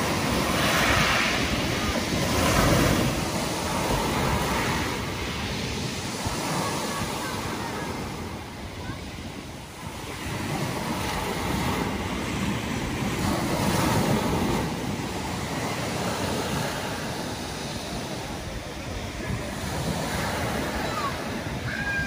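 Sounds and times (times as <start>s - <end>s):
waves breaking on pebble beach: 0.0s - 22.0s.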